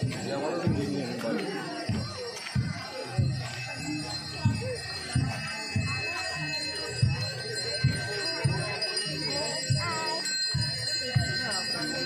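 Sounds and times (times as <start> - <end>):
low drum beat: 0.0 - 11.6
bells and metallic percussion: 0.0 - 12.0
voices: 0.0 - 12.0.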